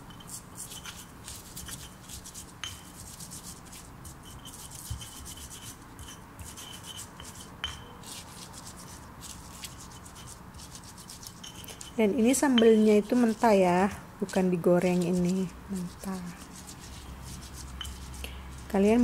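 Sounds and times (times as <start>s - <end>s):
stone pestle scraping in mortar: 0.0s - 19.0s.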